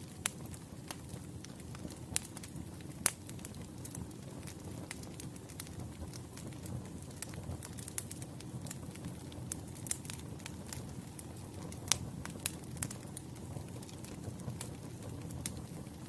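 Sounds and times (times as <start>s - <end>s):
burning logs crackling and popping: 0.0s - 16.0s
campfire flames rumbling: 0.0s - 16.0s.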